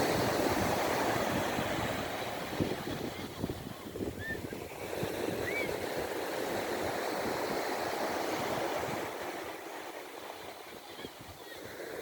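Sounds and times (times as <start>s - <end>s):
sea surf washing in: 0.0s - 12.0s.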